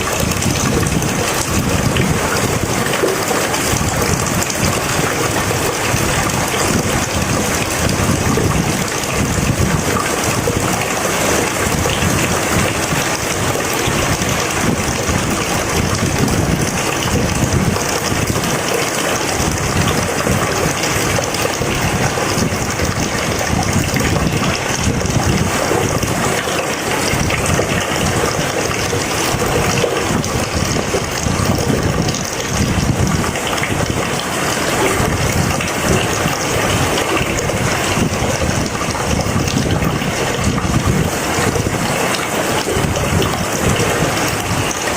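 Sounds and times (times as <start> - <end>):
rain pouring: 0.0 - 44.9.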